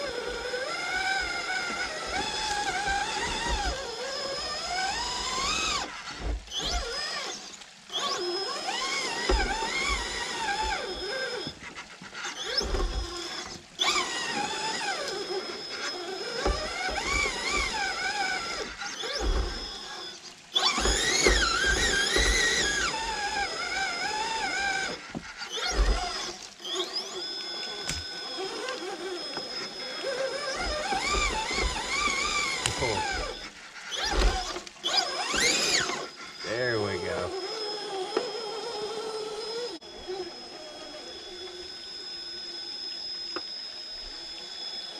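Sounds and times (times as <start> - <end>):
electric motor whining: 0.0 - 44.9.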